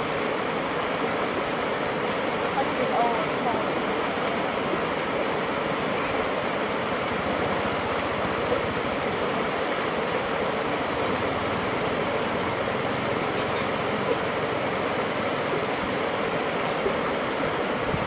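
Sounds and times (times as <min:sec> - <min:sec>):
water rushing through sluice: 0:00.0 - 0:18.0.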